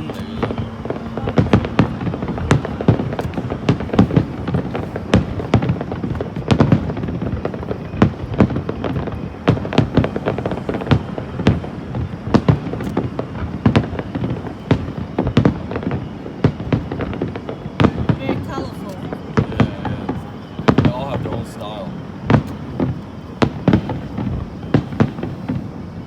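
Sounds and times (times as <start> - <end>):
continuous rumble: 0.0 - 26.0.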